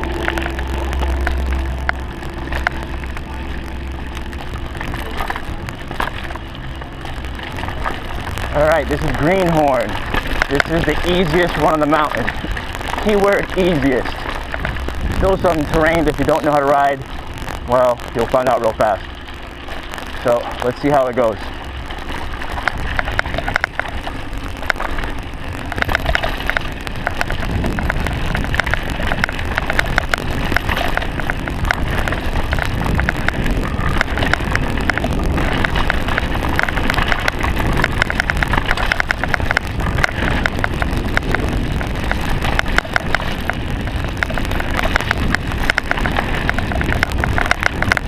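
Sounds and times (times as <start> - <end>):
bike rattling over bumps: 0.0 - 48.0
tyres rumbling on dirt: 0.0 - 48.0
wind rushing over microphone: 0.0 - 48.0.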